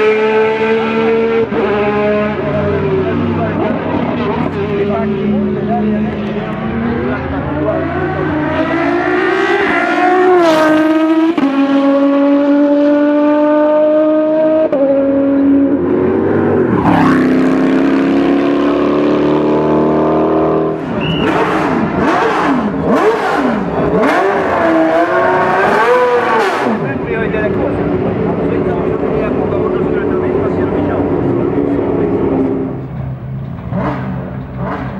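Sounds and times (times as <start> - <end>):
cars passing by: 0.0 - 34.9
racing engine accelerating: 0.0 - 34.9.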